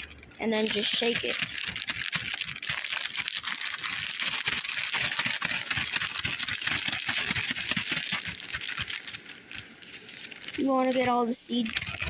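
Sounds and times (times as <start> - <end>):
plastic bag crinkling: 0.0 - 12.0
soil thumping in bag: 0.5 - 12.0.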